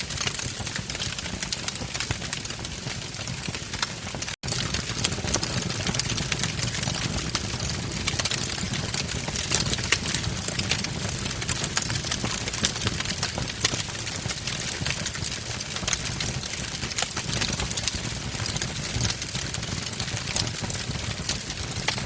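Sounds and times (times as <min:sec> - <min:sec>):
fire hiss and low rumble: 0:00.0 - 0:22.0
wood fire crackling and popping: 0:00.0 - 0:22.0.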